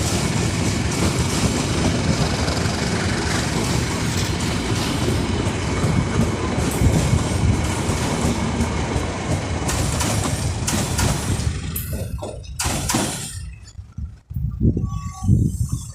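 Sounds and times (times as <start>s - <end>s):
wheels clacking over rail joints: 0.0s - 13.7s
train rumbling past: 0.0s - 14.2s.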